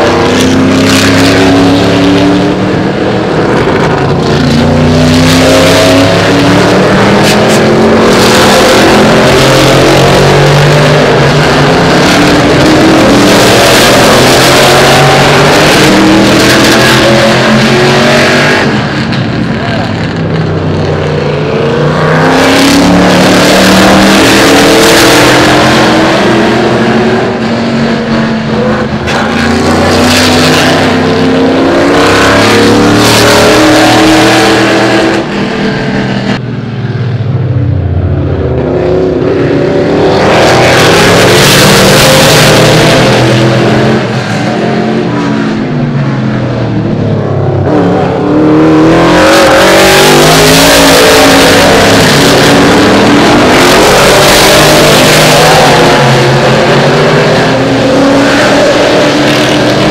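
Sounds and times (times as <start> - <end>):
race car engines revving past: 0.0 - 59.9.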